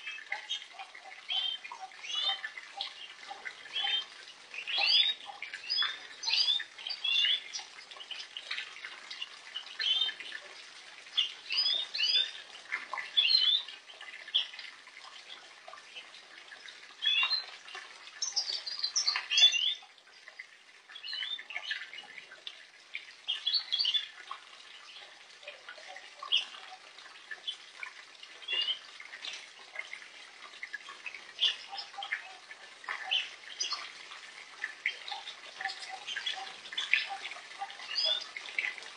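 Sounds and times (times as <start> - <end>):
birds splashing in water: 0.0 - 38.9.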